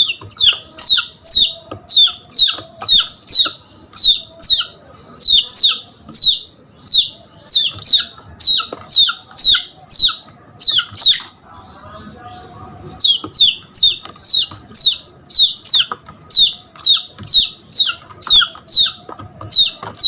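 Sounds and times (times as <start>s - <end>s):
chick peeping: 0.0s - 20.0s.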